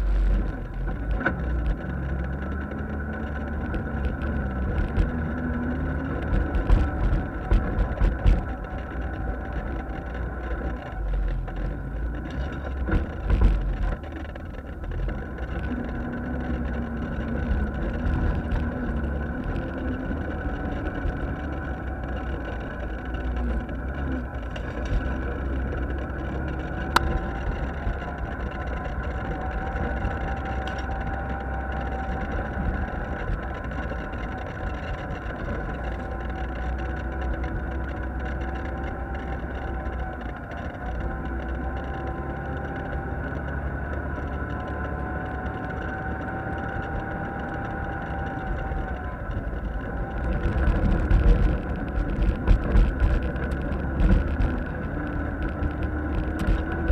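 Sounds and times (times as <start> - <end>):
off-road vehicle engine droning: 0.0 - 56.9.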